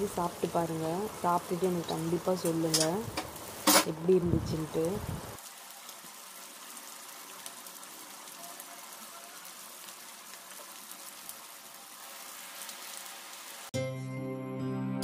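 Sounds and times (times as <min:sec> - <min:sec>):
meat sizzling in oil: 0:00.0 - 0:13.7.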